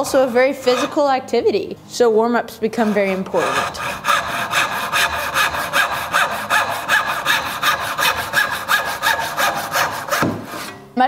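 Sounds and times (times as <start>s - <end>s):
backsaw cutting wood: 0.0s - 1.3s, 2.7s - 10.7s.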